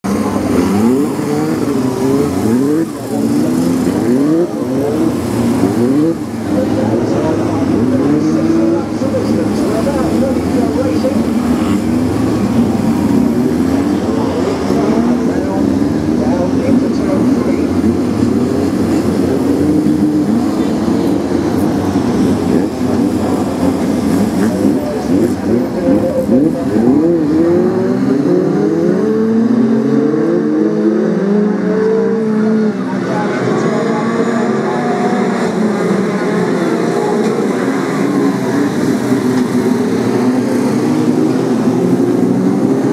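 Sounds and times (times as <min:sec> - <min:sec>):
racing car engines accelerating: 0:00.0 - 0:42.9.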